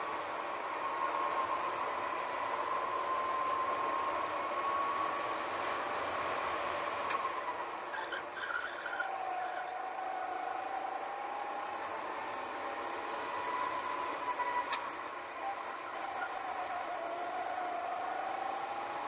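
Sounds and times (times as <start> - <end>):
go-kart engine at high revs: 0.0 - 19.0.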